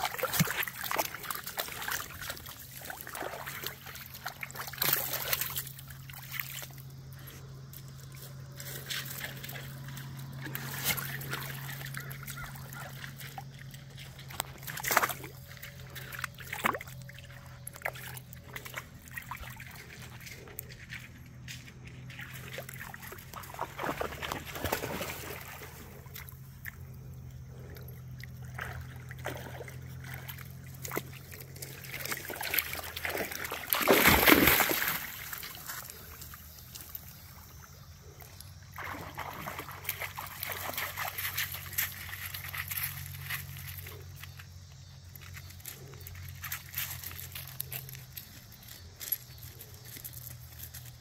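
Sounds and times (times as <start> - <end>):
water sloshing around dog's legs: 0.0 - 51.0.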